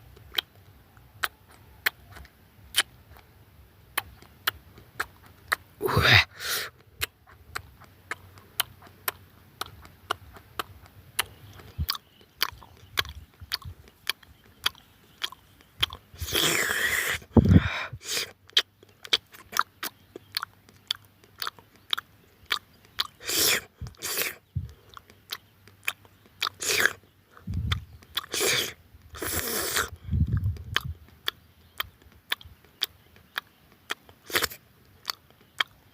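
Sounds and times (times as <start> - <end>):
crunchy bites and chewing: 0.0 - 3.3, 3.9 - 35.9.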